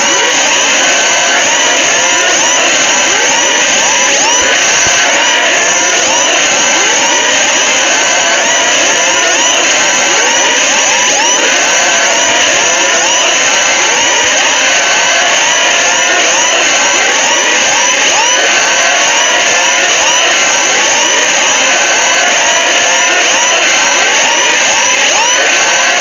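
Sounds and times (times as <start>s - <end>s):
overlapping sweeping siren tones: 0.0s - 26.0s.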